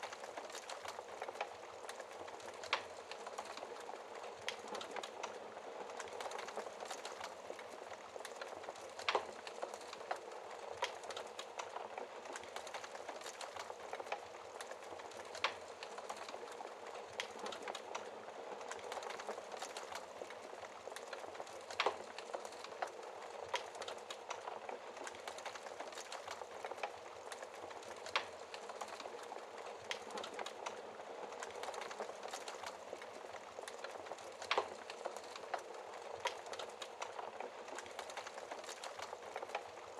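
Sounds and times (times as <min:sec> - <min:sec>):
fire crackles and pops: 0:00.0 - 0:39.9
wood fire hissing: 0:00.0 - 0:39.9.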